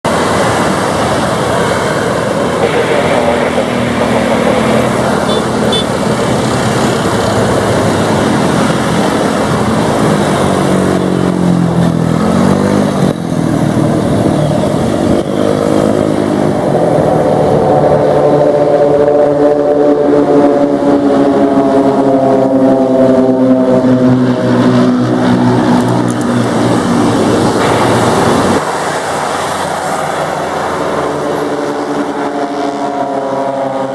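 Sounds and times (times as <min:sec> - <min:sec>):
loud rushing noise: 0:00.0 - 0:33.9
propeller aircraft engine drone: 0:00.0 - 0:33.9.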